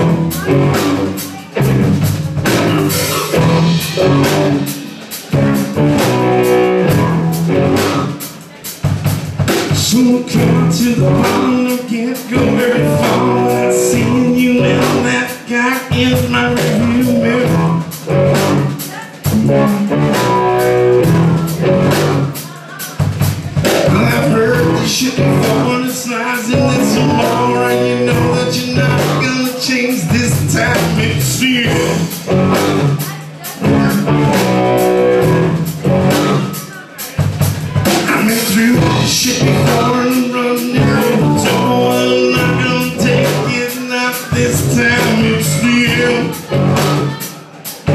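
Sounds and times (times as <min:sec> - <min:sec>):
electric guitar: 0:00.0 - 0:22.5, 0:23.6 - 0:36.7, 0:37.4 - 0:47.9
bass guitar: 0:00.0 - 0:47.9
drum kit beat: 0:00.0 - 0:47.9.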